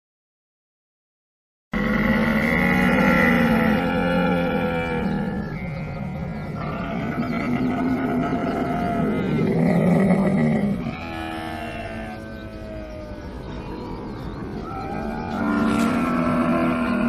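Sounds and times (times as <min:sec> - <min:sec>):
camel bellowing: 0:01.8 - 0:17.0.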